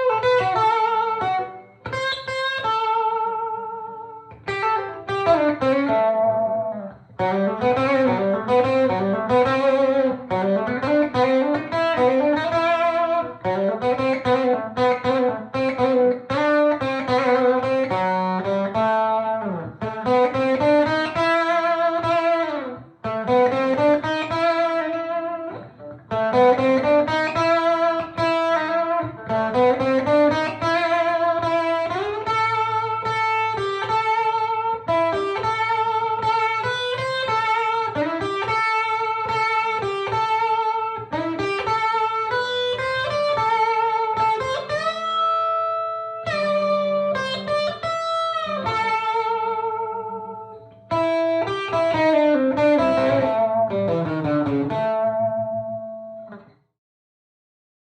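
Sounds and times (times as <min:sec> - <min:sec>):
electric guitar lead: 0:00.0 - 0:56.6.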